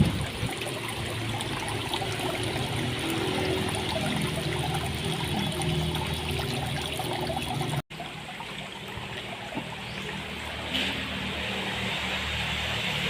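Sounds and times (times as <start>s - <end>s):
water running and trickling: 0.0s - 13.0s
water splashing: 0.0s - 13.0s.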